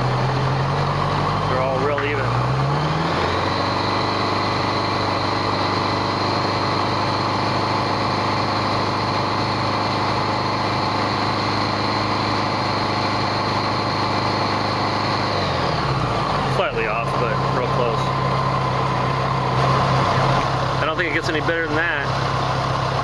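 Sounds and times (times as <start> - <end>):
motorcycle engine at raised revs: 0.0 - 23.0.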